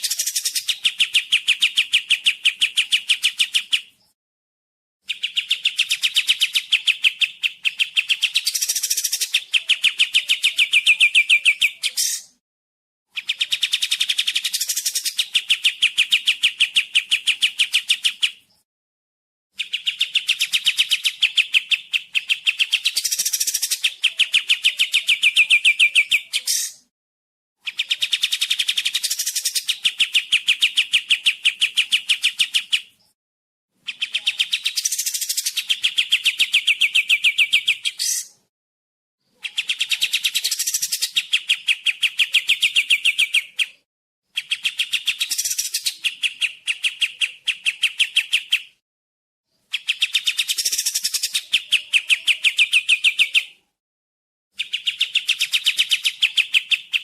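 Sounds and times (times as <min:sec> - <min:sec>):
bird singing rapid sharp notes: 0:00.0 - 0:04.2, 0:05.0 - 0:12.4, 0:13.1 - 0:18.6, 0:19.6 - 0:26.9, 0:27.6 - 0:33.2, 0:33.8 - 0:38.4, 0:39.3 - 0:48.8, 0:49.5 - 0:53.6.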